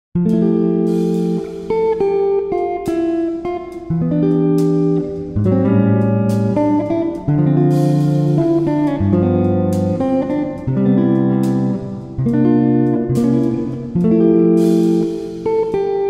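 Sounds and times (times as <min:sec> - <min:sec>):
plucked guitar notes: 0:00.2 - 0:16.0.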